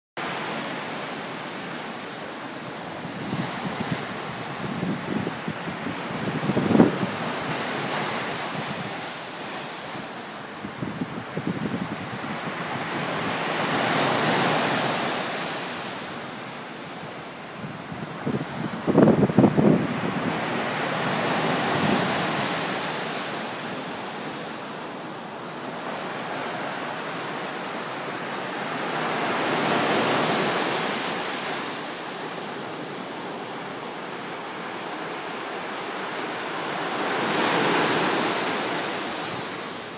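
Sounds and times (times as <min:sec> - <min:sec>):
ocean surf breaking: 0:00.2 - 0:39.9.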